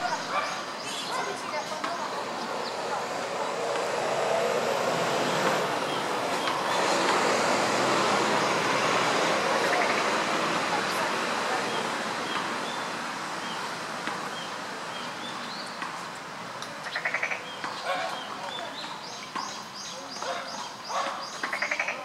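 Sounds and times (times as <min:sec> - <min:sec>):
road vehicle passing: 0:00.0 - 0:21.8.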